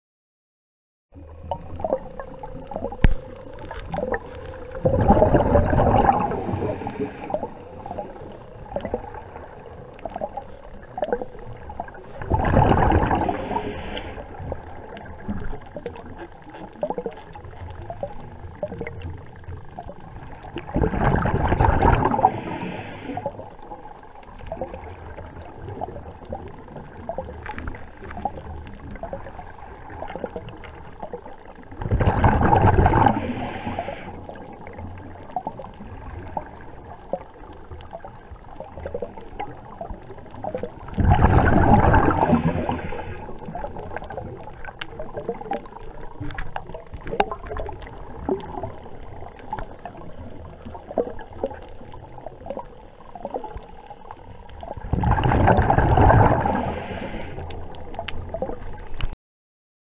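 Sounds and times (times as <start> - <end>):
underwater bubbles gurgling: 1.1 - 59.2
crackle of small clicks: 1.2 - 59.2.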